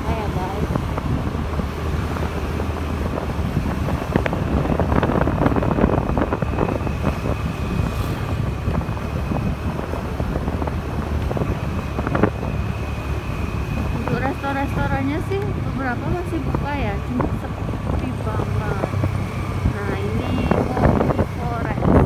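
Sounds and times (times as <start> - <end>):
motorbike engine: 0.0 - 22.0
wind buffeting microphone: 0.0 - 22.0.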